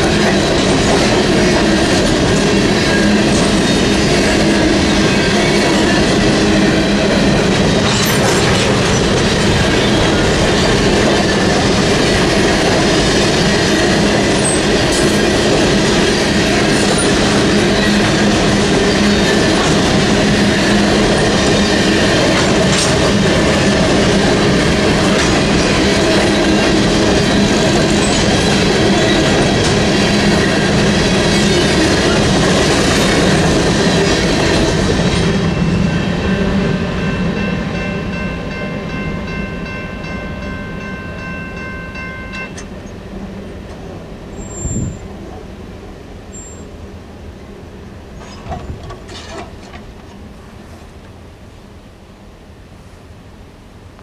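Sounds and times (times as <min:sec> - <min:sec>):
crossing bell ringing: 0:00.0 - 0:43.7
train wheels on rails: 0:00.0 - 0:51.4.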